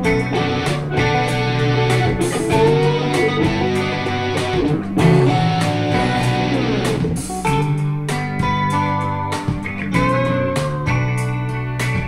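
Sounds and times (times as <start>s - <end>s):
music with guitar and bass: 0.0s - 12.0s.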